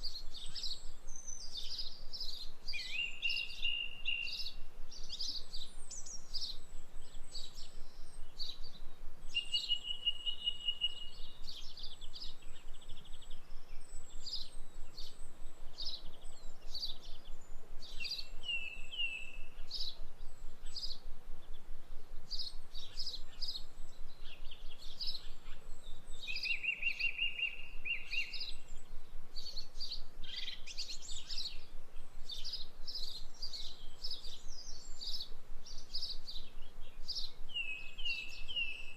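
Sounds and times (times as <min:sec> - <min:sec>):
birds chirping and singing: 0:00.0 - 0:21.7, 0:22.3 - 0:38.9.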